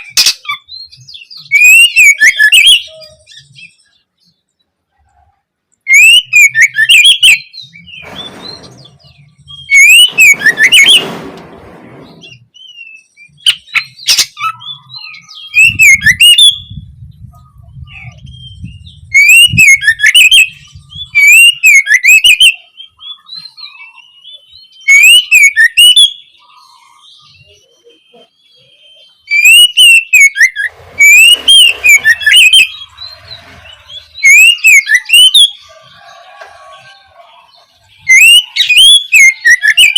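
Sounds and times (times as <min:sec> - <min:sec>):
bird singing whistled phrases: 0:00.0 - 0:04.0, 0:05.9 - 0:11.1, 0:12.1 - 0:35.7, 0:37.9 - 0:39.9
fast high bird twittering: 0:00.0 - 0:04.0, 0:05.9 - 0:39.9.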